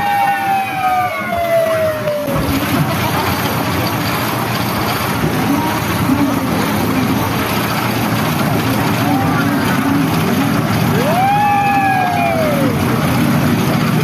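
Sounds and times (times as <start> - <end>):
carnival ride machinery noise: 0.0 - 14.0.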